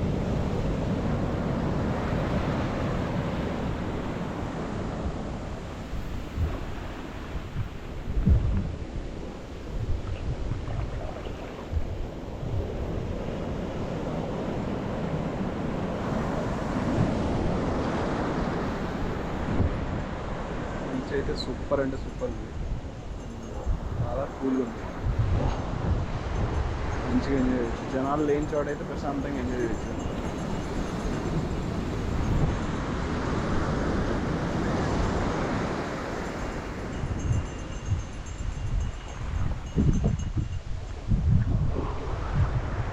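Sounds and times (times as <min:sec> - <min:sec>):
surf washing onto beach: 0:00.0 - 0:37.7, 0:40.9 - 0:42.9
wind buffeting microphone: 0:00.0 - 0:42.9.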